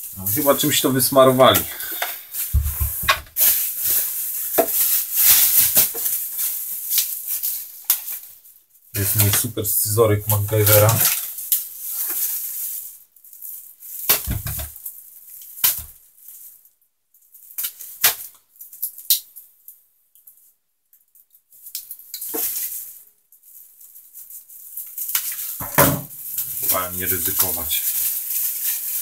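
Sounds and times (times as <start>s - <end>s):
bubble wrap crinkling: 0.0s - 19.3s, 21.3s - 29.0s.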